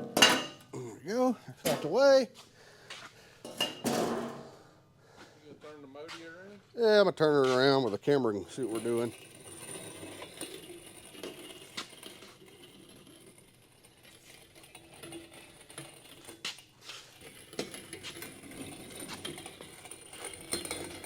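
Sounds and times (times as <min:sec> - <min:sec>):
faint shop room noise: 0:00.0 - 0:21.0.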